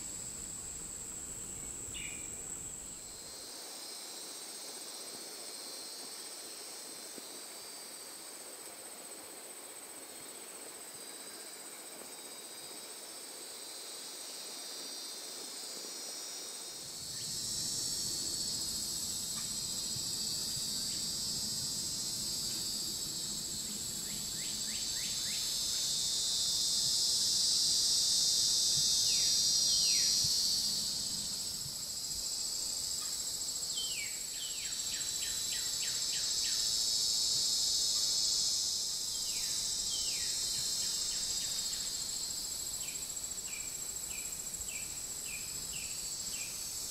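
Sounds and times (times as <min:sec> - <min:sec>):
insects chorus: 0:00.0 - 0:46.9.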